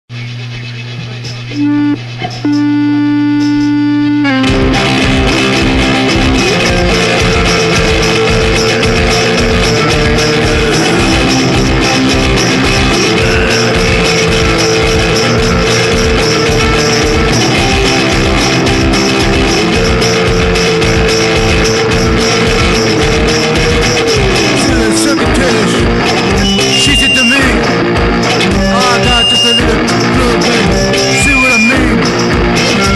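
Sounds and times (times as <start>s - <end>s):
sliding electric guitar riff: 1.4s - 32.9s
fast drum beat: 4.5s - 32.9s.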